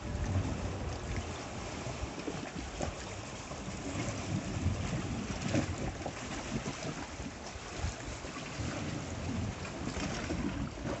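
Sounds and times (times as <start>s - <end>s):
sea lapping against rocks: 0.0s - 11.0s
wind buffeting microphone: 0.0s - 11.0s.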